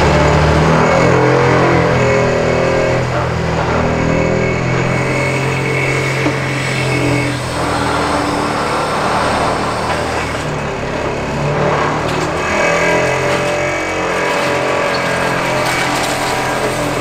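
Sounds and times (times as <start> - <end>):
excavator diesel engine running: 0.0 - 17.0
steady high whine: 0.0 - 17.0.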